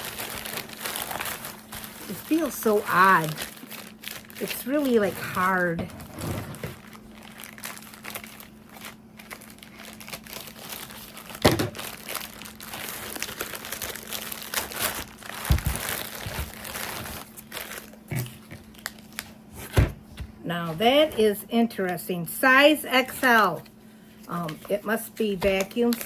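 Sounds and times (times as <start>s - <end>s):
plastic packaging crinkling: 0.0s - 19.7s, 24.2s - 26.0s.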